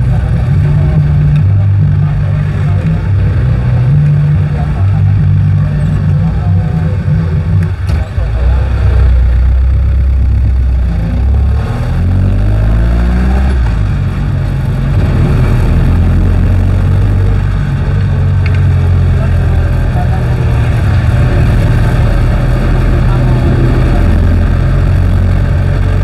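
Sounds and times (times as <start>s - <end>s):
diesel engine revving and cruising: 0.0s - 26.0s.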